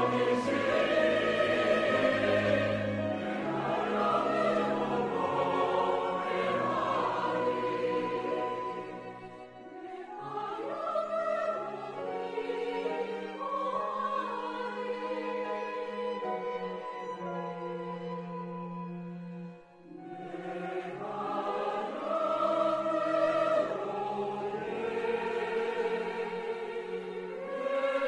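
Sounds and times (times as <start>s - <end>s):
flute: 0.0s - 25.2s
choir singing a hymn: 0.0s - 28.0s
violin: 0.0s - 28.0s.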